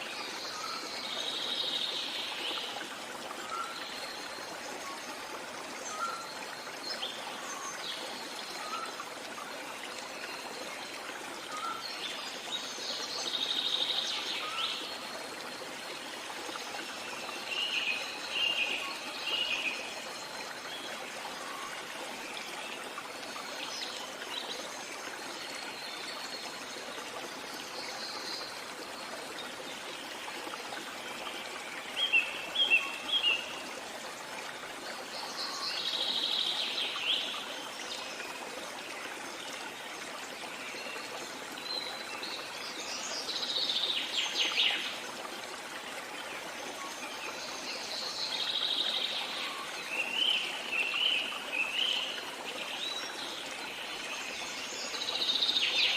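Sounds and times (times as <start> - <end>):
flowing stream: 0.0 - 55.9.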